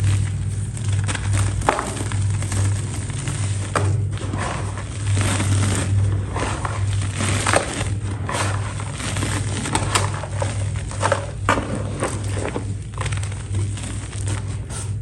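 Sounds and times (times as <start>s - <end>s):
brittle material crunching: 0.0s - 15.0s
low hum: 0.0s - 15.0s.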